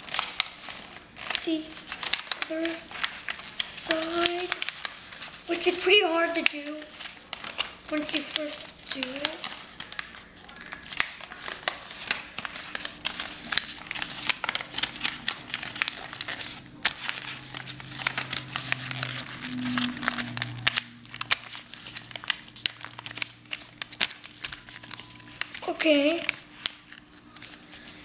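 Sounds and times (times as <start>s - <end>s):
paper crinkling and rustling: 0.0s - 28.0s.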